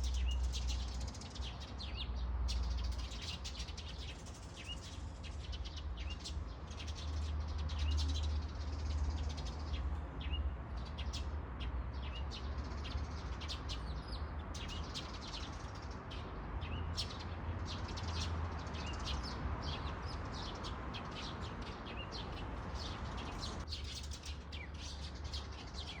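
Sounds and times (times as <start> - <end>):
flock of small birds chirping: 0.0 - 26.0.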